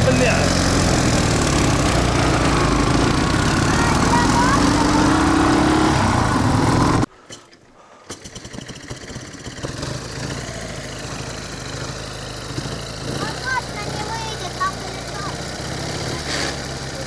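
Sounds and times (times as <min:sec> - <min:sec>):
motorcycle engine running: 0:00.0 - 0:07.1, 0:08.1 - 0:17.0.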